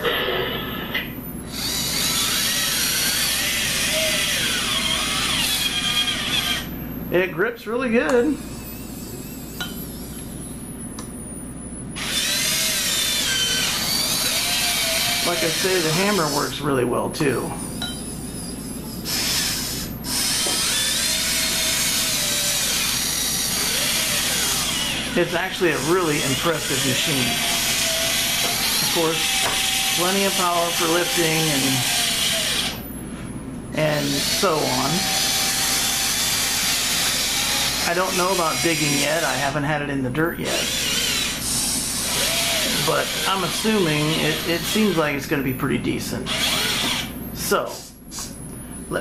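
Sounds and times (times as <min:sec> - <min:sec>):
electric motors whining: 0:00.0 - 0:07.2, 0:08.3 - 0:16.7, 0:17.4 - 0:39.5, 0:40.4 - 0:45.6, 0:46.3 - 0:48.8.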